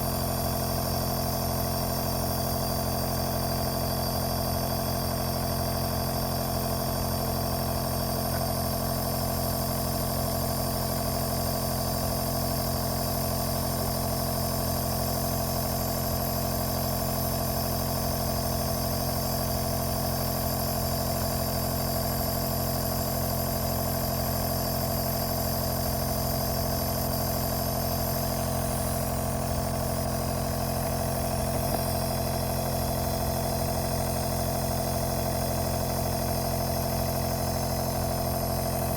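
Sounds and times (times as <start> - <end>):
electric compressor droning: 0.0 - 38.9.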